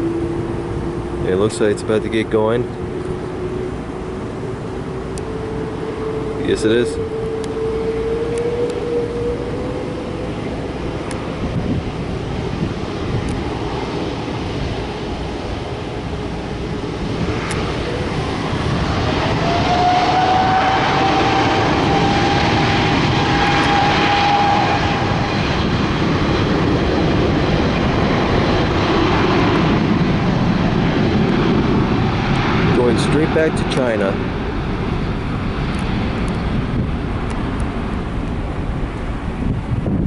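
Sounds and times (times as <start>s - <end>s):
high engine whine: 0.0s - 40.0s
jet engines rumbling: 0.0s - 40.0s.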